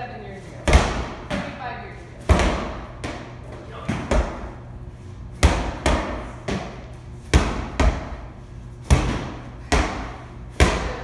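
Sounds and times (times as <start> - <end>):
medicine balls slammed on rubber floor: 0.6 - 1.6, 2.2 - 4.6, 5.4 - 11.0.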